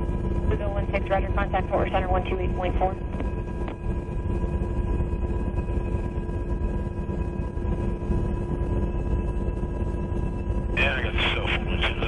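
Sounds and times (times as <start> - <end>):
helicopter engine whine: 0.0 - 12.0
helicopter rotor and engine rumble: 0.0 - 12.0.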